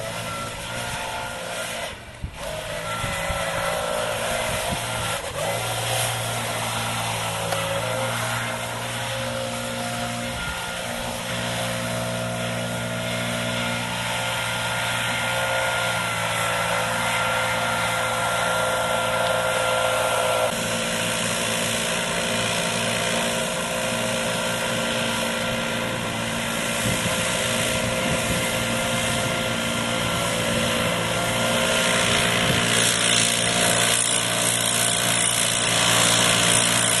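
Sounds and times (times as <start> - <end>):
leaf blower engine running: 0.0 - 37.0.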